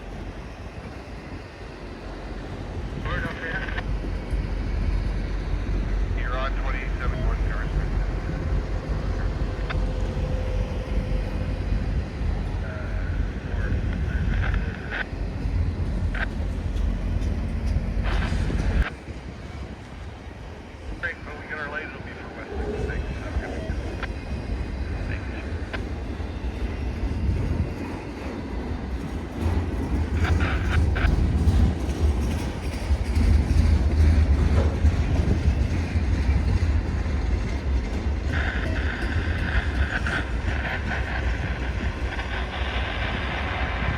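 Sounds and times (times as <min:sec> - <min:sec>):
train passing with low rumble: 0:00.0 - 0:43.9.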